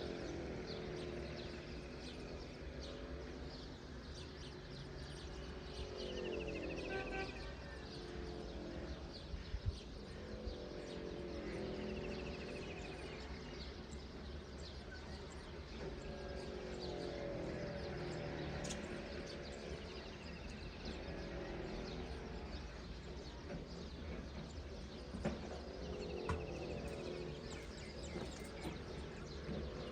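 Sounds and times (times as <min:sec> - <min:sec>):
birds chirping: 0:00.0 - 0:29.9.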